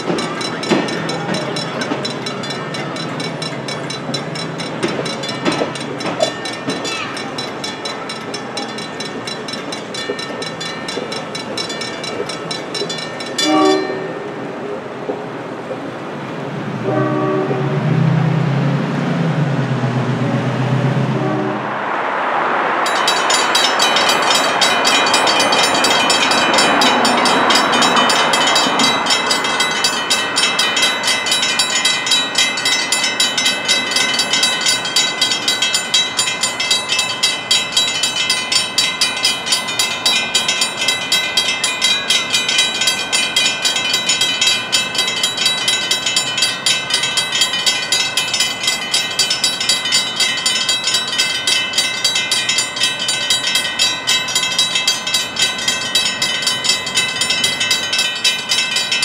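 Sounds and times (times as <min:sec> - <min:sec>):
crossing warning bells ringing: 0:00.0 - 0:18.7, 0:20.2 - 0:59.0
passing road traffic: 0:00.0 - 0:59.0.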